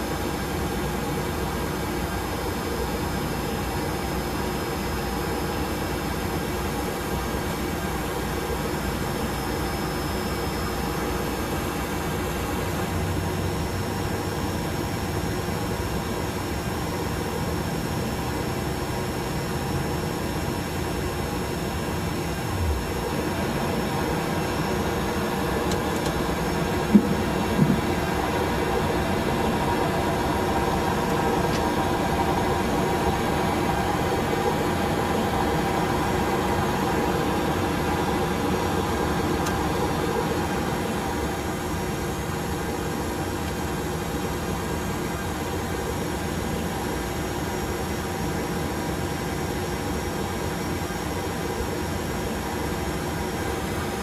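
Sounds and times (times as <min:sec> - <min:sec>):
cockpit engine and airflow hum: 0:00.0 - 0:54.0.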